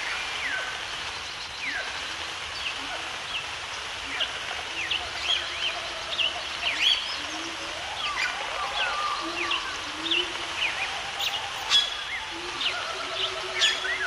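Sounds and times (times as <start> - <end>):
birds chirping: 0.0 - 14.0
steady background hiss: 0.0 - 14.0.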